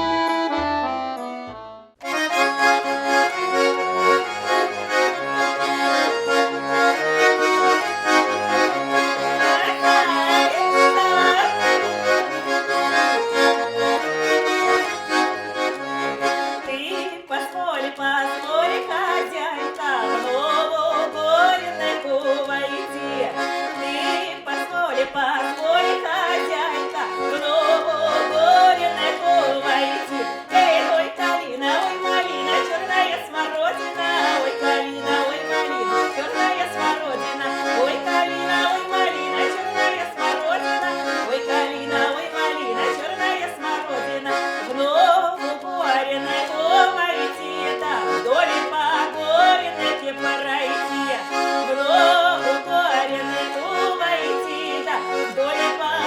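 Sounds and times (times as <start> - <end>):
accordion playing folk tune: 0.0 - 56.0.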